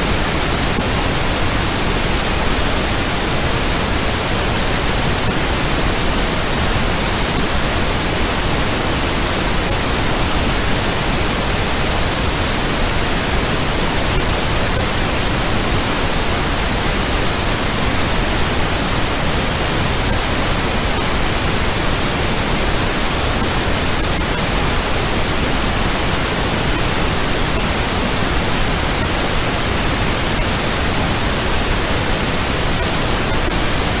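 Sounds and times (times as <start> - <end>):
even broadband hiss: 0.0 - 34.0.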